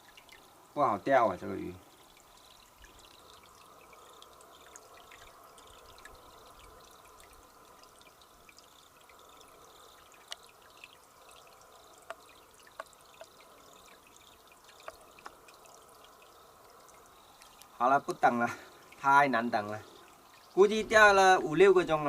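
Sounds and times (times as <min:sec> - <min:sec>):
water drips plinking: 0:00.0 - 0:22.0
water trickling: 0:00.0 - 0:22.0.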